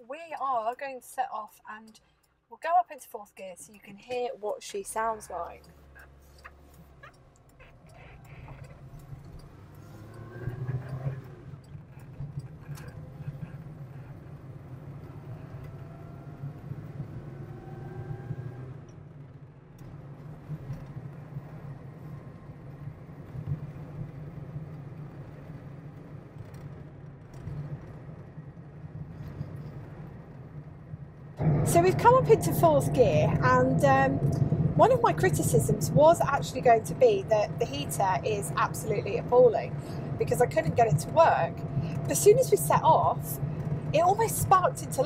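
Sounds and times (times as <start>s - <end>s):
road drone: 3.3s - 45.0s
car engine accelerating: 5.2s - 29.4s, 30.0s - 45.0s.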